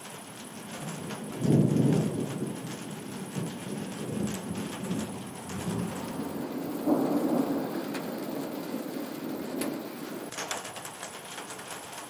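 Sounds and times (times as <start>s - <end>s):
steady rain: 0.0s - 12.0s
thunder rumbling: 0.2s - 10.3s.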